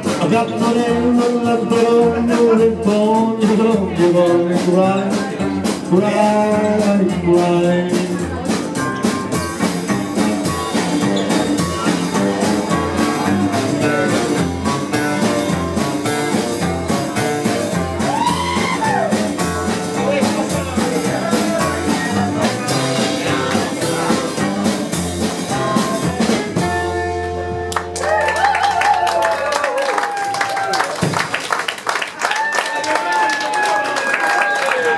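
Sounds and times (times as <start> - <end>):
rockabilly band playing live: 0.0 - 34.9.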